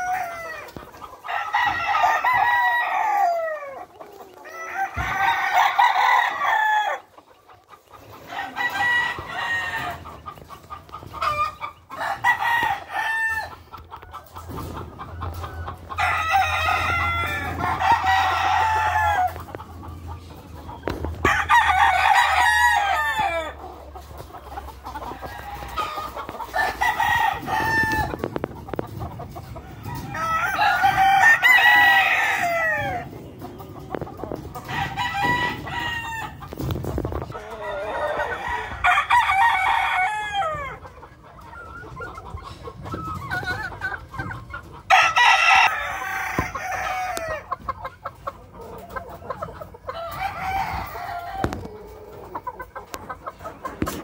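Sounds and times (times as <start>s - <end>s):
roosters crowing: 0.0s - 7.3s, 7.9s - 40.9s, 44.8s - 48.8s, 49.4s - 52.7s.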